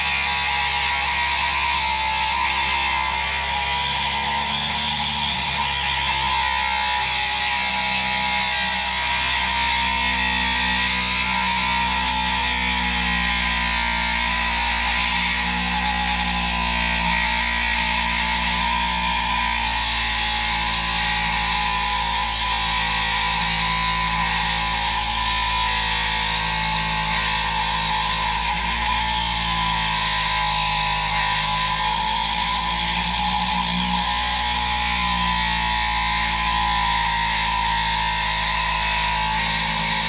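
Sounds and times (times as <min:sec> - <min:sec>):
rotary tool cutting metal: 0:00.0 - 0:40.0.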